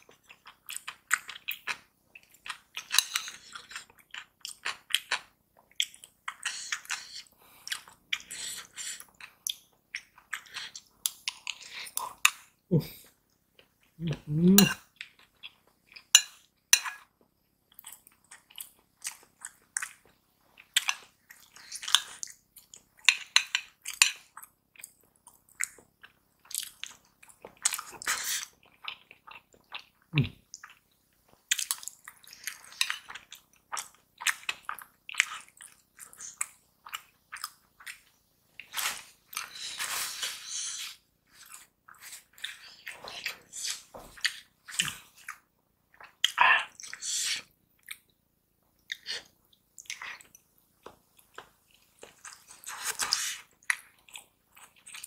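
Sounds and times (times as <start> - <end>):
wet chewing and mouth smacking: 0.0 - 12.6, 13.2 - 48.2, 48.8 - 55.0.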